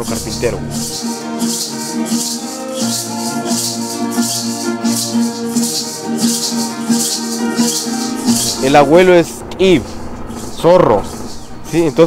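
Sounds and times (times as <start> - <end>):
rattles shaken in steady beat: 0.0 - 12.0
sustained melody instrument notes: 0.0 - 12.0.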